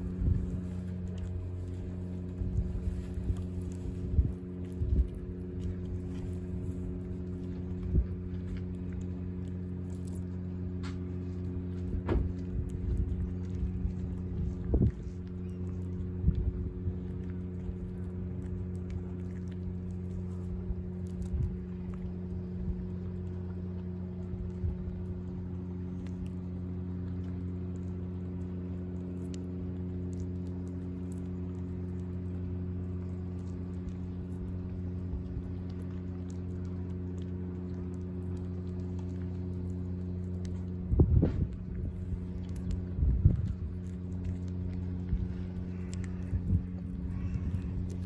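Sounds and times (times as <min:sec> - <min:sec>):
cat chewing raw fish: 0:00.0 - 0:48.0
low mechanical hum: 0:00.0 - 0:48.0.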